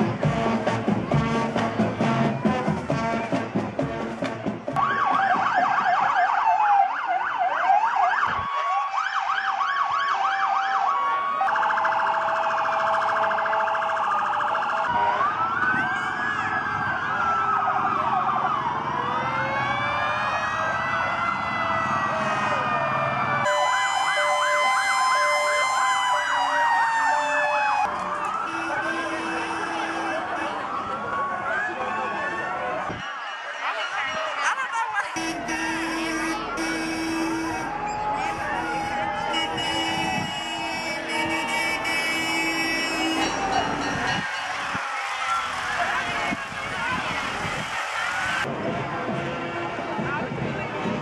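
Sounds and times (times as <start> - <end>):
emergency vehicle sirens: 4.8 - 51.0.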